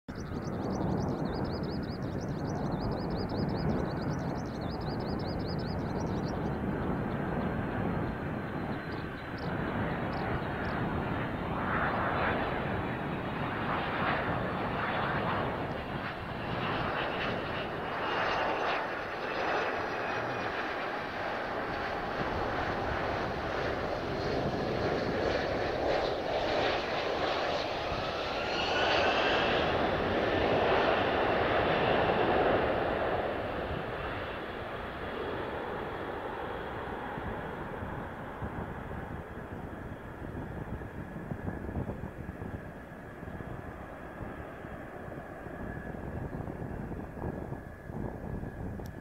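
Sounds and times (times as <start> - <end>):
jet engine rushing and whining: 0.1 - 49.0.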